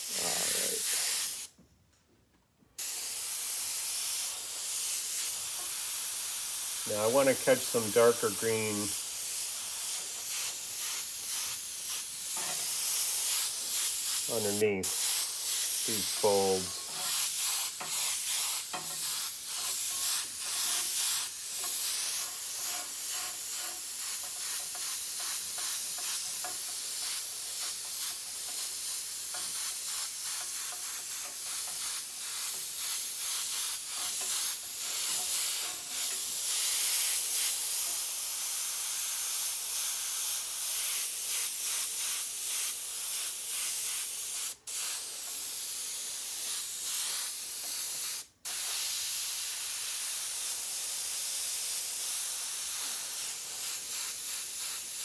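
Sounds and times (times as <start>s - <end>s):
airbrush hissing: 0.0s - 1.5s, 2.8s - 55.0s.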